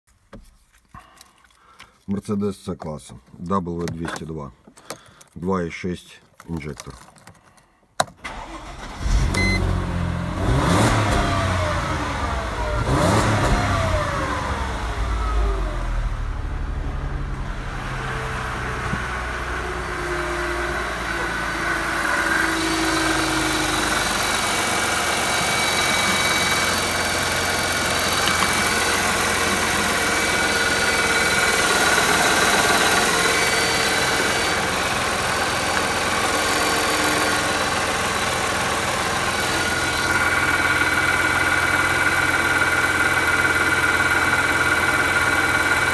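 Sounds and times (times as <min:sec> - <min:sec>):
car engine revving and idling: 0:08.3 - 0:45.9.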